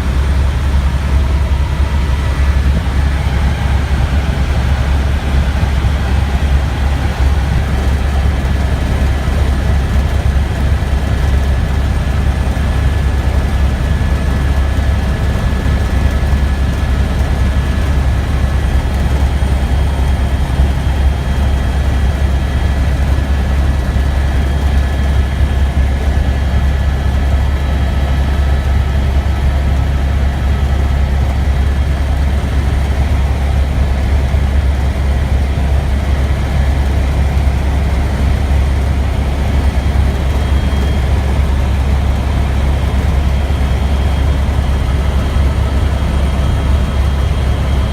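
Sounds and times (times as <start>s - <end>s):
helicopter rotor drone: 0.0s - 47.9s
thin steady whine: 0.0s - 47.9s.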